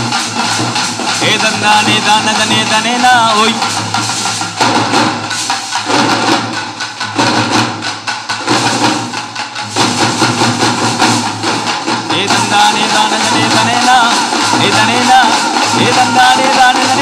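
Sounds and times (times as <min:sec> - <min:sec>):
frame drums playing fast rhythm: 0:00.0 - 0:17.0.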